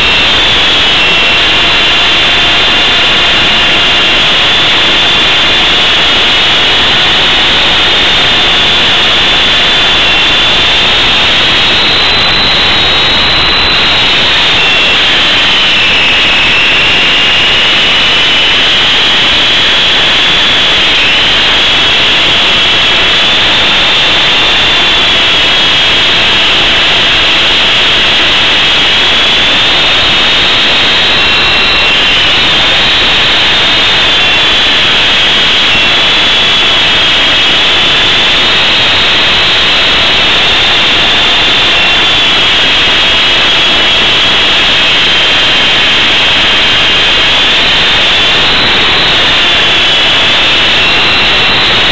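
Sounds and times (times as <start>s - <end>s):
rc helicopter motor whine: 0.0s - 51.9s.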